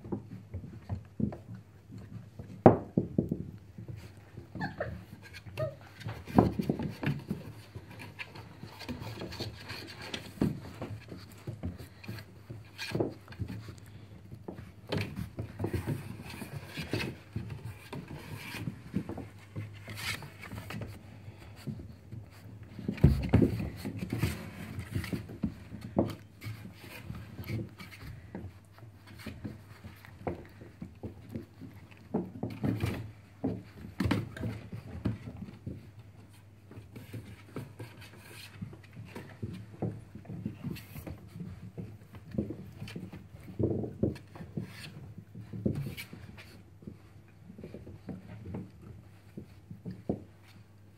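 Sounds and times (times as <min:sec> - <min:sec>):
puppies scratching on bedding: 0:03.3 - 0:50.9.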